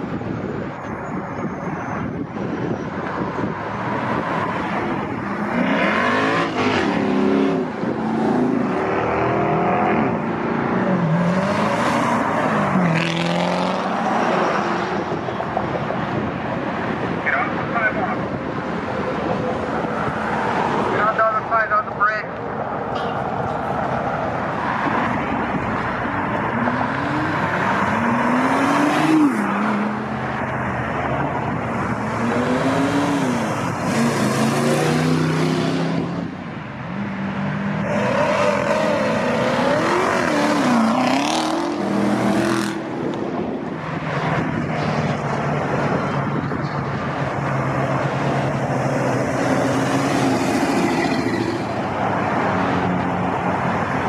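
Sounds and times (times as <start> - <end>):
car engines revving and accelerating: 0.0 - 54.0
traffic noise: 0.0 - 54.0.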